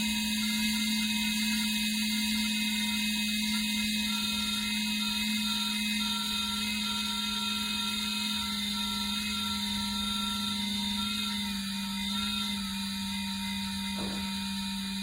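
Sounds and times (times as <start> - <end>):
space heater fan running: 0.0 - 15.0.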